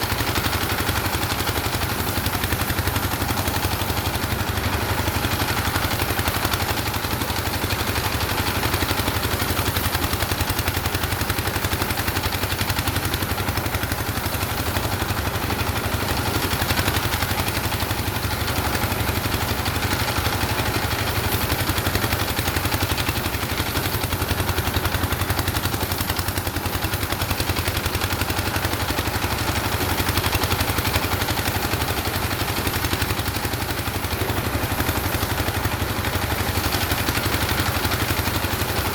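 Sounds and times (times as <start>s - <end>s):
engine running with knocking beat: 0.0s - 38.9s.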